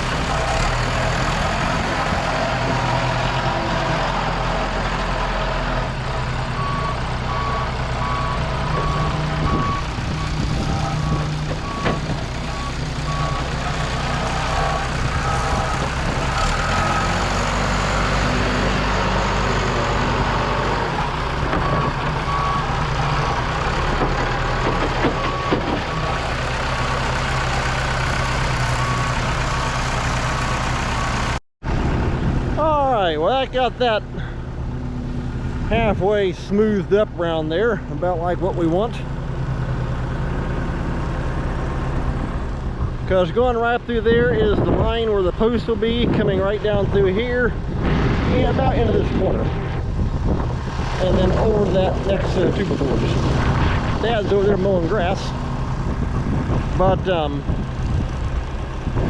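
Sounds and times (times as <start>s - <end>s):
diesel earthmoving machine running: 0.0s - 59.0s.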